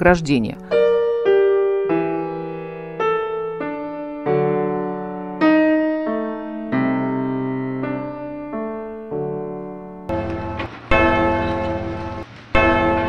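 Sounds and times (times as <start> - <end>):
slow piano chords: 0.6 - 13.0.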